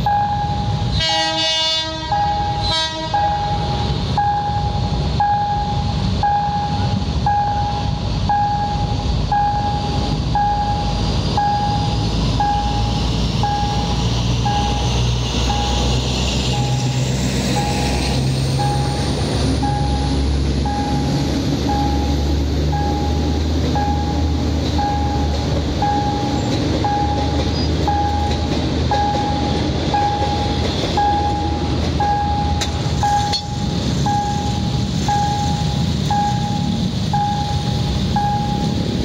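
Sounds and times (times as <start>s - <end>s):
crossing warning signal beeping: 0.0s - 1.1s, 1.9s - 39.0s
locomotive engine rumbling: 0.0s - 39.0s
train coaches rolling past: 0.0s - 39.0s.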